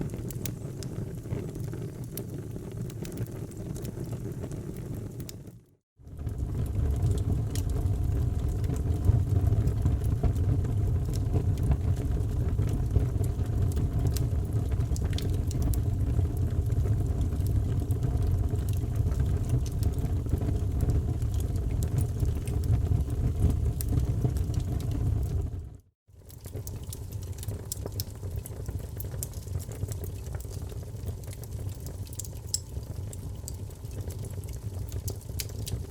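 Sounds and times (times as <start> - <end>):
fire crackling and popping: 0.0 - 35.9
wood fire roaring: 0.0 - 35.9.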